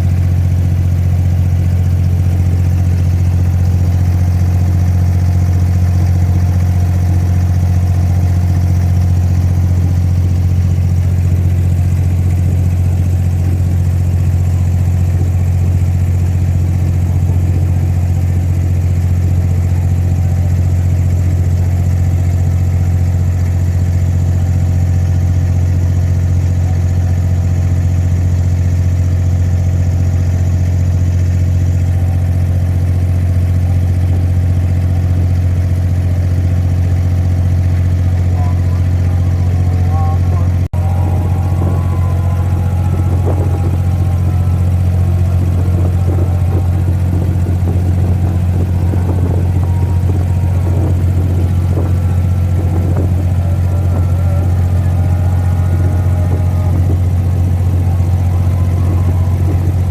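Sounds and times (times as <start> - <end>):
boat diesel engine droning: 0.0 - 59.9.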